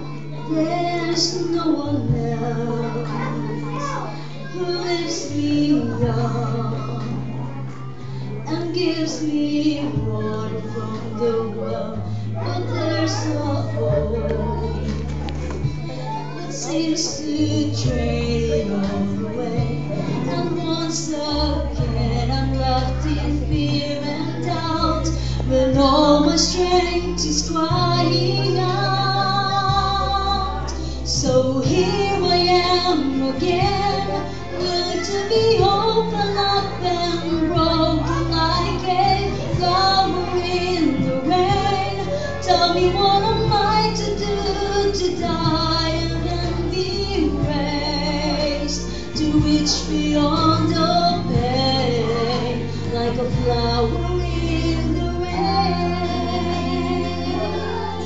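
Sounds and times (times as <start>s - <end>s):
woman singing: 0.0s - 15.0s, 16.2s - 58.0s
instrumental accompaniment: 0.0s - 58.0s.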